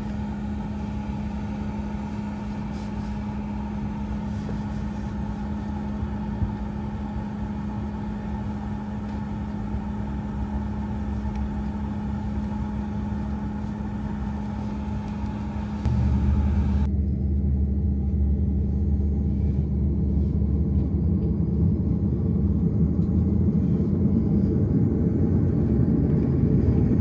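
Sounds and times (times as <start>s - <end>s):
turboprop engine drone in cabin: 0.0s - 27.0s.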